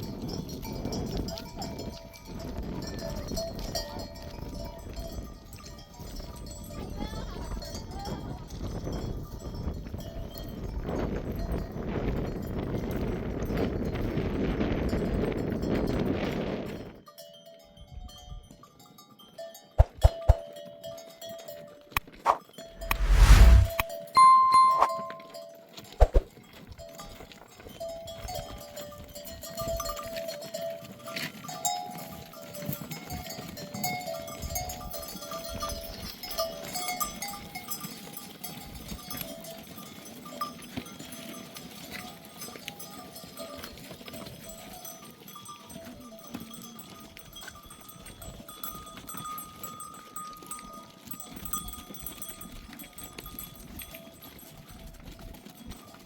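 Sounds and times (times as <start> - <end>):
sheep bells clinking: 0.0 - 22.2, 24.2 - 56.0.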